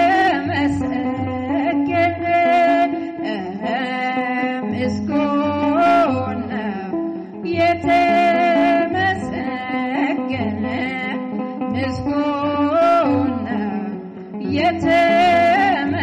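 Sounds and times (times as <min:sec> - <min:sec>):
instrumental accompaniment: 0:00.0 - 0:16.0
woman singing a hymn: 0:00.0 - 0:16.0.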